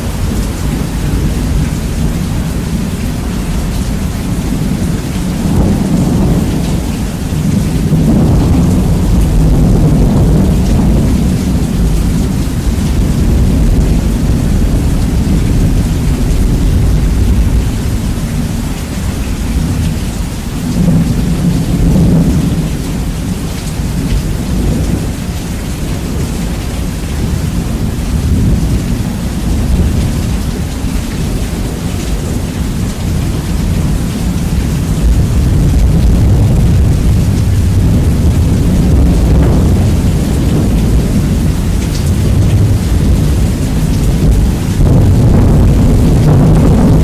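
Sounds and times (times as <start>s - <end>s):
heavy rain: 0.0s - 47.0s
rolling thunder: 0.0s - 47.0s.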